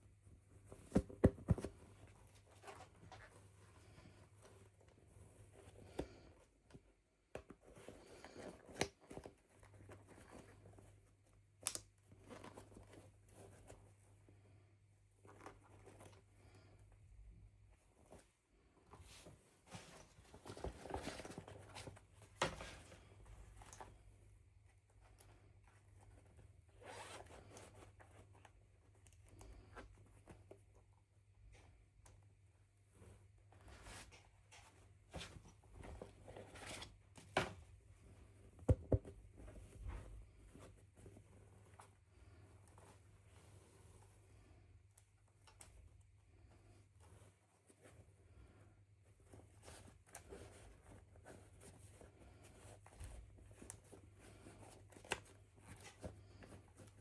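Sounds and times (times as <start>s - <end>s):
small clicks and rustles: 0.1s - 57.0s.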